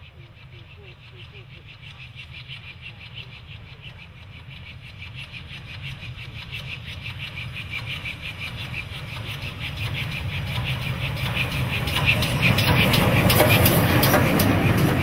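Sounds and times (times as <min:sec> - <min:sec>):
low train rumble: 0:00.0 - 0:15.0
steam locomotive exhaust beats: 0:00.0 - 0:15.0.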